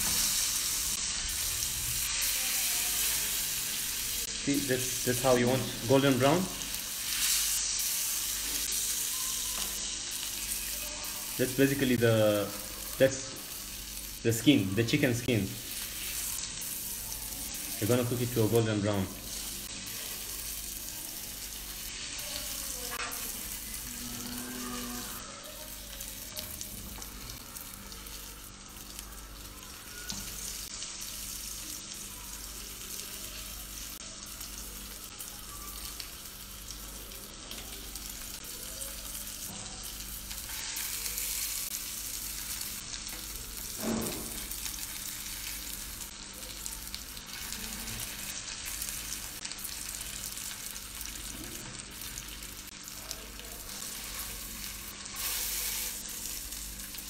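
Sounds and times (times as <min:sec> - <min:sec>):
meat sizzling in a frying pan: 0:00.0 - 0:57.0.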